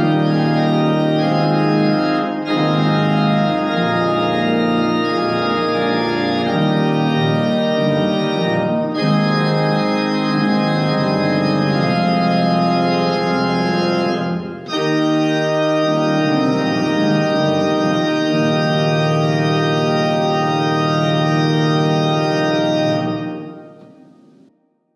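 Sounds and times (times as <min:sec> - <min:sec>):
organ music: 0:00.0 - 0:24.5.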